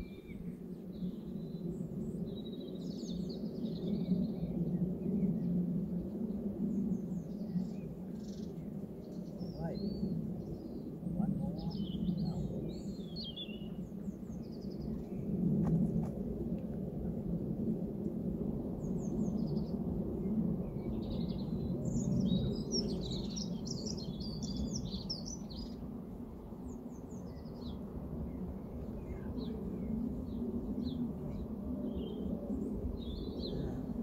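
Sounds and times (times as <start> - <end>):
small birds chirping and singing: 0.0 - 15.2, 20.6 - 25.9, 26.6 - 34.0.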